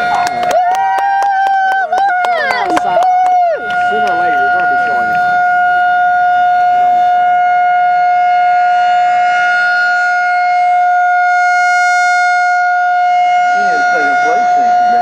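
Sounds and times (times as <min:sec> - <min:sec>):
warning siren steady tone: 0:00.0 - 0:15.0.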